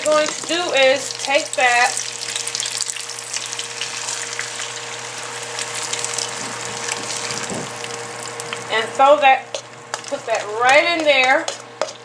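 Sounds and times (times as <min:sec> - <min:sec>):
liquid sizzling in hot oil: 0:00.0 - 0:10.5.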